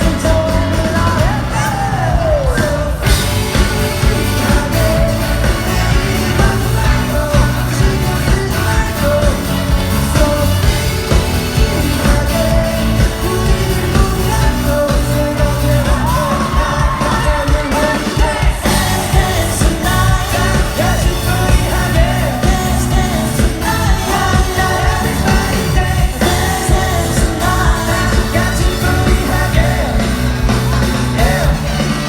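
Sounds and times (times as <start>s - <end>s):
live pop-rock band: 0.0s - 32.0s
person singing: 0.0s - 32.0s.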